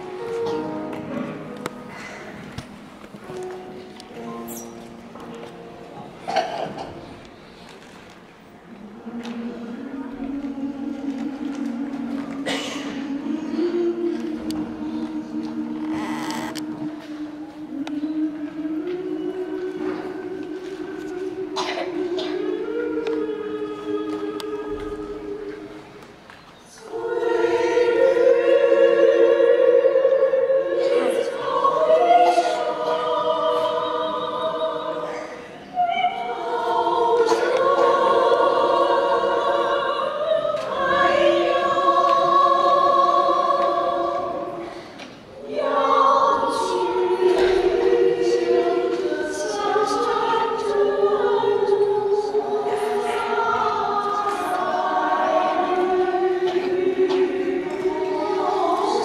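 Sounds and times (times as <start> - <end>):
women's choir singing a cappella: 0.0 - 5.3, 6.0 - 59.0.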